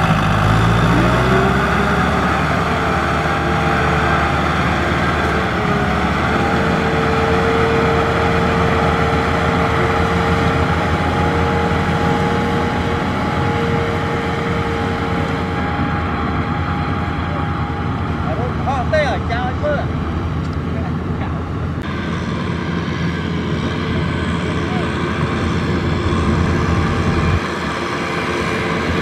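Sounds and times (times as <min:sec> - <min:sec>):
steady whine: 0:00.0 - 0:29.0
tractor diesel engine running: 0:00.0 - 0:29.0.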